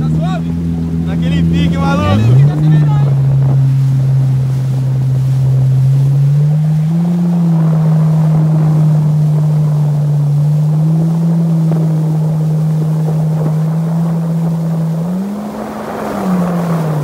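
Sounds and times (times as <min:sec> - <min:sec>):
jet ski engine humming: 0:00.0 - 0:17.0.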